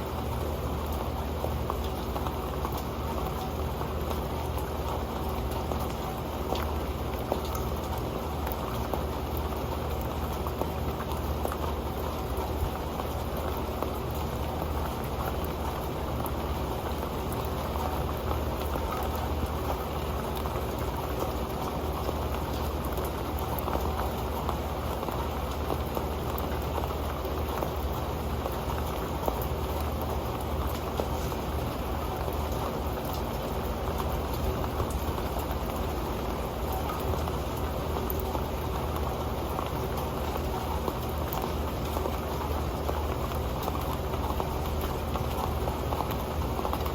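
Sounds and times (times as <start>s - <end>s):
rain on a metal pan: 0.0s - 46.9s.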